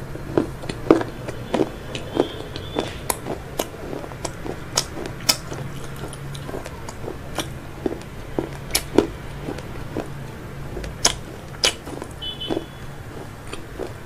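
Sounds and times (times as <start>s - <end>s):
crunchy chewing: 0.0s - 14.0s
low steady hum: 0.0s - 14.0s.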